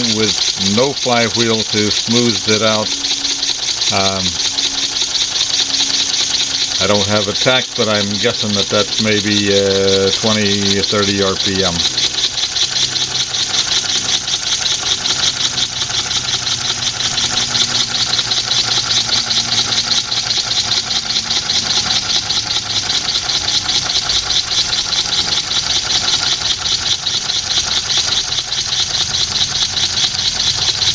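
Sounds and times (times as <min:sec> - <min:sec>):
air engine pulsing hiss: 0:00.0 - 0:30.9
light mechanical knocking: 0:00.0 - 0:30.9.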